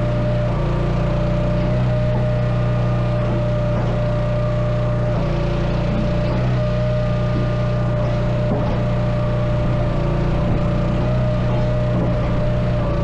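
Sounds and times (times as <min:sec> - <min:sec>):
engine humming with whine: 0:00.0 - 0:13.0.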